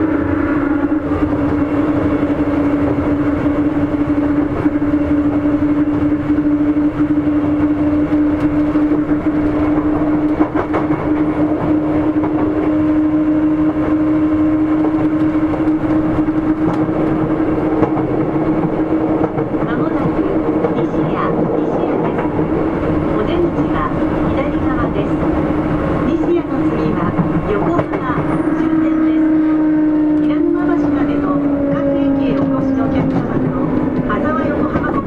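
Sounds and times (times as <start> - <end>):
electric train running hum: 0.0 - 35.0.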